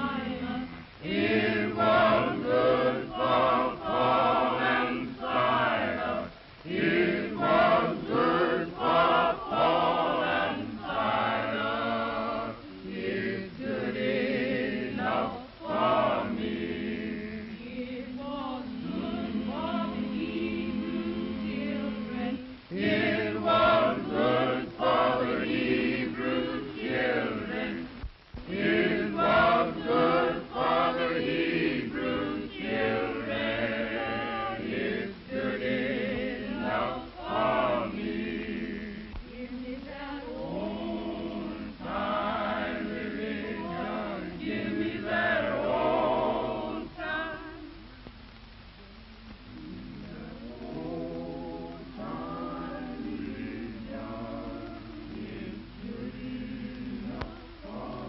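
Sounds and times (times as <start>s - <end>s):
choir singing a hymn: 0.0s - 47.9s, 49.4s - 58.0s.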